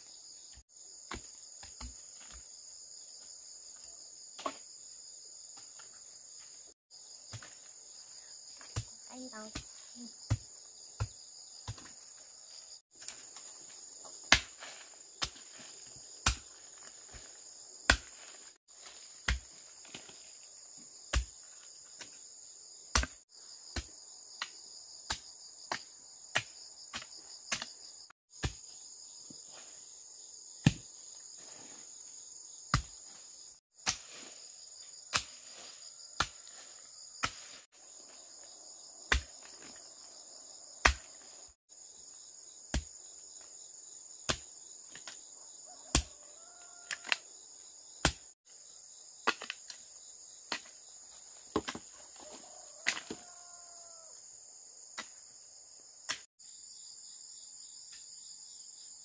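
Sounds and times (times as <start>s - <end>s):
high insect chorus: 0.0s - 59.0s.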